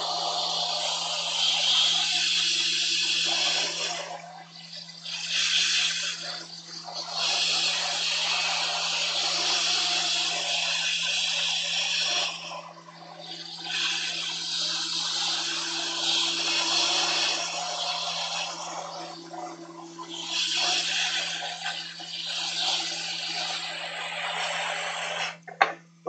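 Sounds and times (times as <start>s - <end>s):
hot air station hissing: 0.0s - 25.4s.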